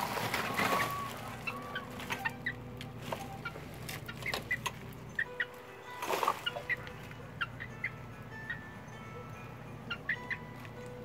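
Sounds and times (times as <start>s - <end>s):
hen clucking and chirping: 0.2s - 11.0s.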